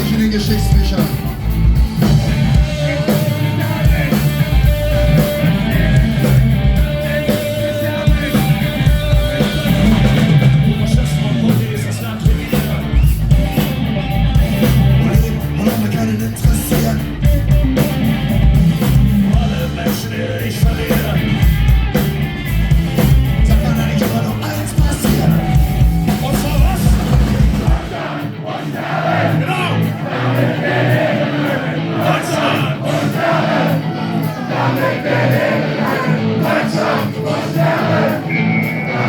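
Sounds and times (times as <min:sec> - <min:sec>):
shouted singing: 0:00.0 - 0:17.2, 0:23.4 - 0:39.0
distorted guitars: 0:00.0 - 0:39.0
drums: 0:00.0 - 0:39.0
punk rock band playing live: 0:00.0 - 0:39.0.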